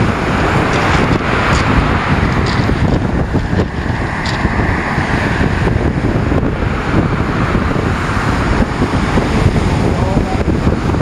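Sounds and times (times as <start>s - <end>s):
surf on shingle beach: 0.0s - 11.0s
wind buffeting microphone: 0.0s - 11.0s.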